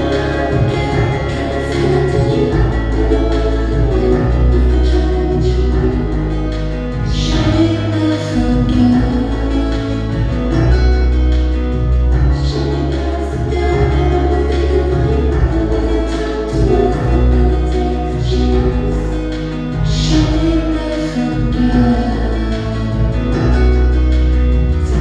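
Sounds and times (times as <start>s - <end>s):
person singing softly: 0.0s - 11.2s, 12.2s - 24.0s
acoustic guitar: 0.0s - 25.0s
bass line: 0.0s - 25.0s
keyboards and synthesizer: 0.0s - 25.0s.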